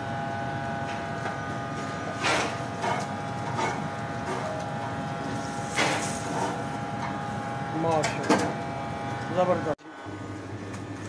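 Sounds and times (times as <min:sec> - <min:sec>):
kitchen machinery humming: 0:00.0 - 0:11.0.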